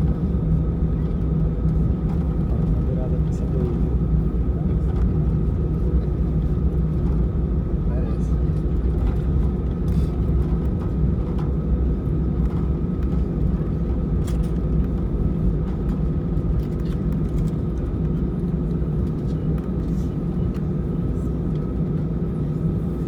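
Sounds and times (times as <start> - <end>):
airplane cabin rumble: 0.0 - 23.0.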